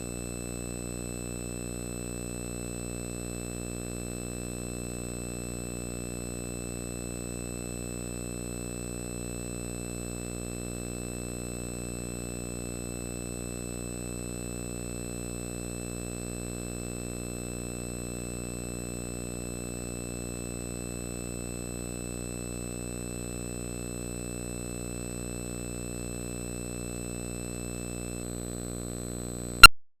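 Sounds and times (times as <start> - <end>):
buzzing electrical hum: 0.0 - 29.7
faint high whine: 0.0 - 29.7.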